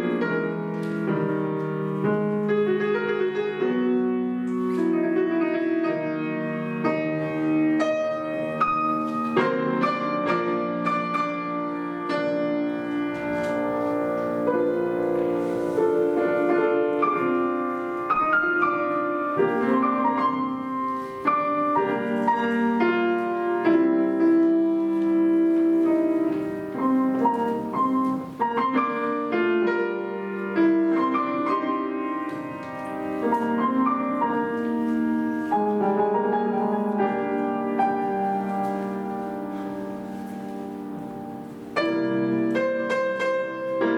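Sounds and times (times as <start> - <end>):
classical piano music: 0.0 - 43.9.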